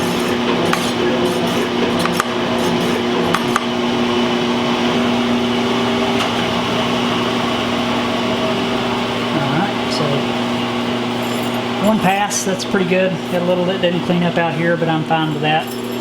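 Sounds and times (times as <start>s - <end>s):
machine motor hum: 0.0s - 16.0s.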